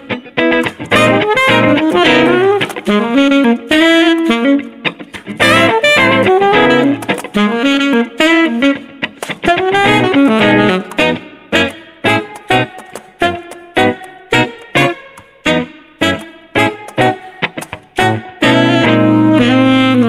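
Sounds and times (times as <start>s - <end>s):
alto saxophone jazz melody: 0.0s - 20.0s
electric guitar picking chords: 0.0s - 20.0s.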